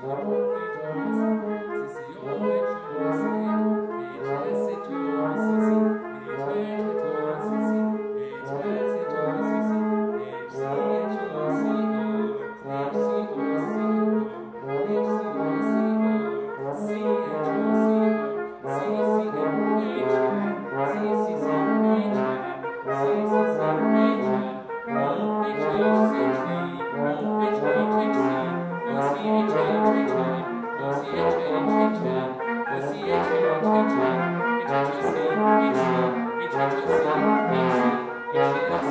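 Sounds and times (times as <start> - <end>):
bass clarinet: 0.0 - 38.9
trombone: 0.0 - 38.9
trumpet: 0.0 - 38.9.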